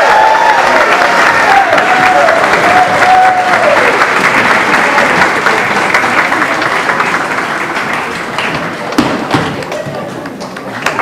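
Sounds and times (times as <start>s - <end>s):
audience applauding: 0.0s - 9.0s, 9.6s - 11.0s.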